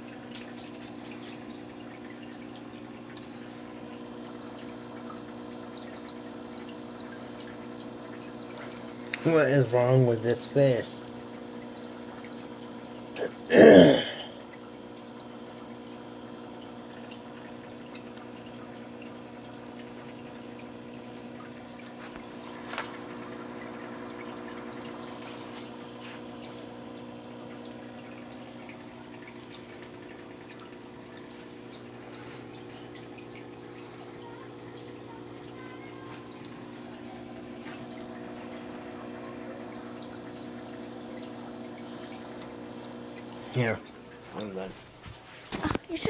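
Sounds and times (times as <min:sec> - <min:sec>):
aquarium pump humming: 0:00.0 - 0:46.0
water trickling and dripping: 0:00.0 - 0:46.0.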